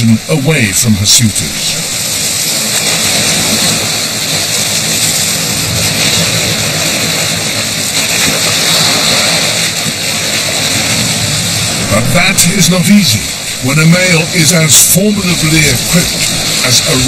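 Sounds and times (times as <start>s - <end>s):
sea water rushing and splashing: 0.0s - 17.0s.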